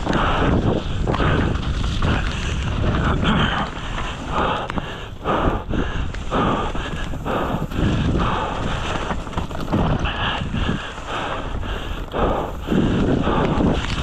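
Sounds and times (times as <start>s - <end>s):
mountain bike on rough trail: 0.0s - 14.0s
wind noise on microphone: 0.0s - 14.0s.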